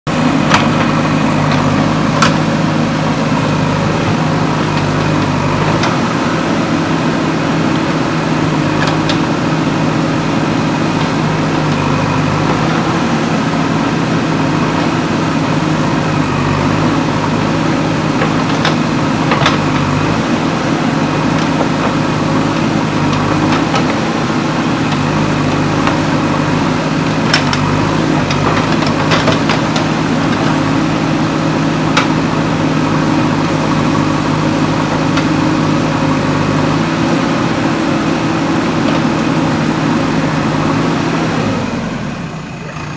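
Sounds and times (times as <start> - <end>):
backhoe arm digging soil: 0.1 - 41.9
diesel engine running: 0.1 - 42.9.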